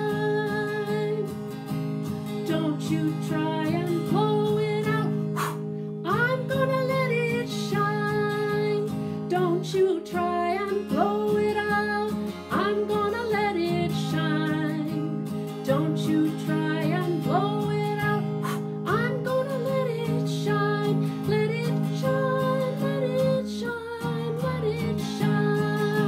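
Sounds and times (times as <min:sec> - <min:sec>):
woman singing children's song: 0:00.0 - 0:01.3, 0:02.4 - 0:26.0
acoustic guitar strumming: 0:00.0 - 0:26.0.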